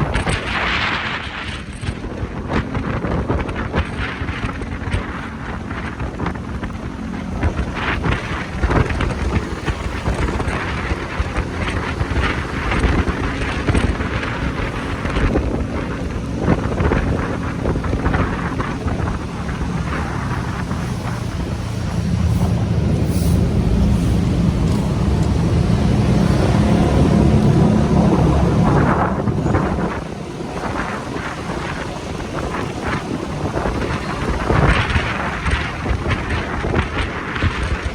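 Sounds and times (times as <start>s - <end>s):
motorcycle engine running: 0.0s - 37.9s
wind buffeting microphone: 0.0s - 37.9s.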